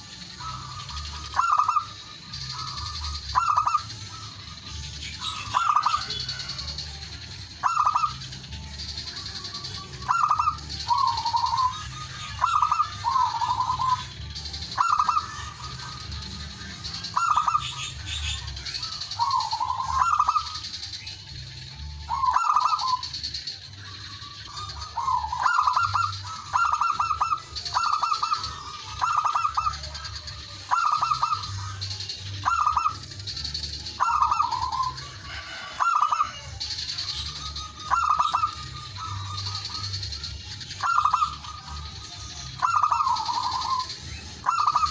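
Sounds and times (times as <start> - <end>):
dove cooing: 0.0 - 20.7, 22.0 - 44.9.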